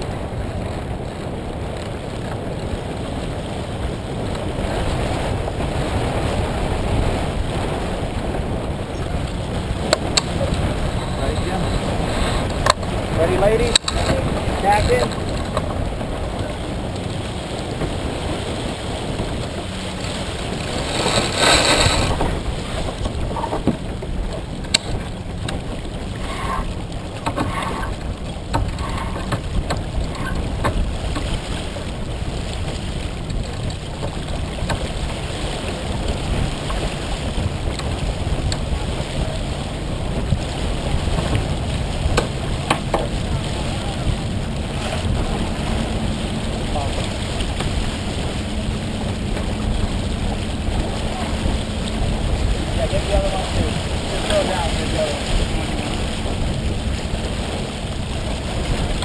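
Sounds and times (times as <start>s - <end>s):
rush of spray: 0.0s - 59.0s
water rushing along hull: 0.0s - 59.0s
wind on microphone: 0.0s - 59.0s.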